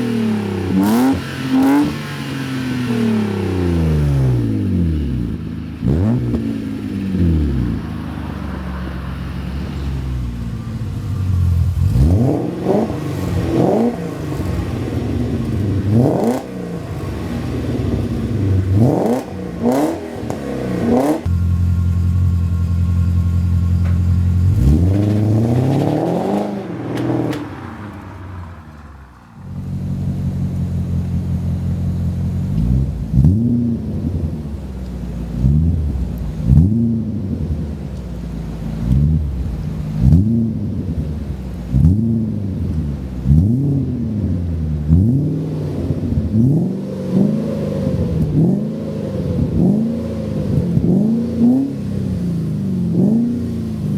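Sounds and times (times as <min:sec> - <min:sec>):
car engine revving and idling: 0:00.0 - 0:53.9.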